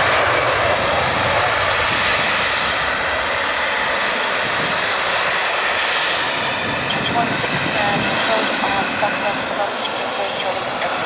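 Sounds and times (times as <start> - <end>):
jet engines taxiing: 0.0 - 11.0.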